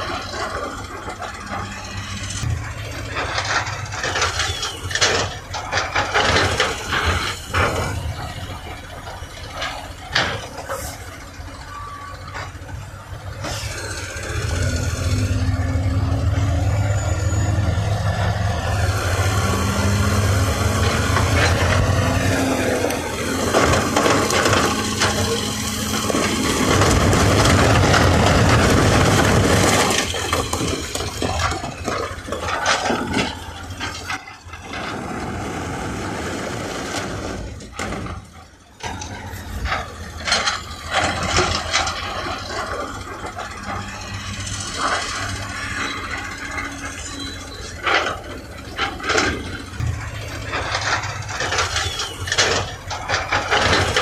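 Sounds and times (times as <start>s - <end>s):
diesel engine running: 0.0s - 54.0s
metal and earth scraping and rattling: 0.0s - 54.0s.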